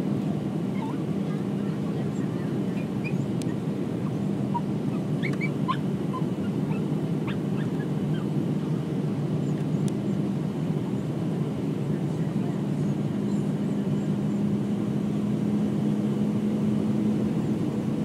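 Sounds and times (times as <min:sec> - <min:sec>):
airplane cabin engine roar: 0:00.0 - 0:18.0.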